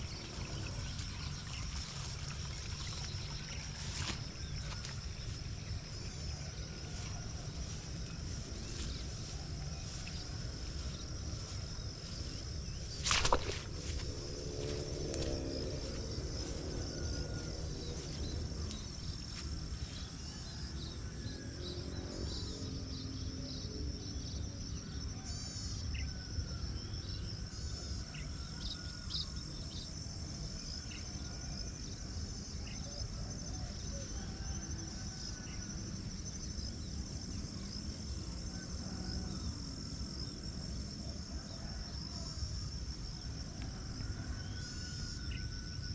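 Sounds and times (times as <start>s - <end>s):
high insect trill: 0.0s - 45.9s.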